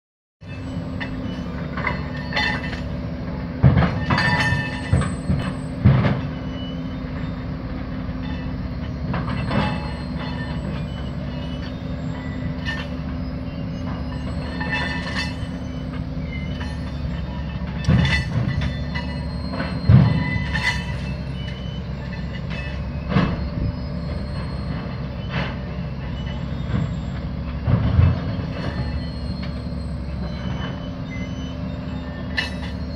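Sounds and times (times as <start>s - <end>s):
machinery drone: 0.4s - 32.9s
metal plates clanking: 0.5s - 7.4s, 8.2s - 32.9s.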